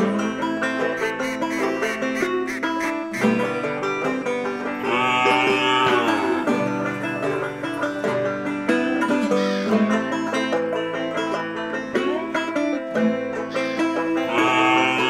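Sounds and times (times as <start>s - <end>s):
plucked-string country tune: 0.0s - 15.0s.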